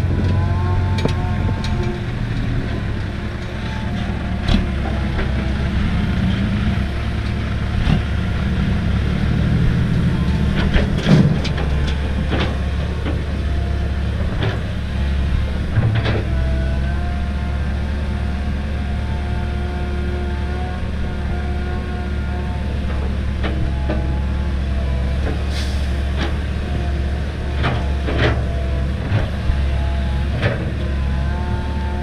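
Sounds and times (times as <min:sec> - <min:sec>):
diesel engines running: 0:00.0 - 0:32.0.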